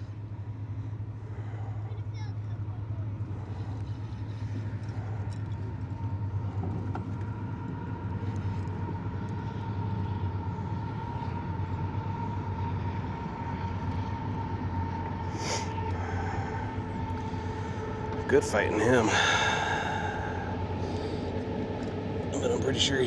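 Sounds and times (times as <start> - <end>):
boat motor running: 0.0 - 23.0.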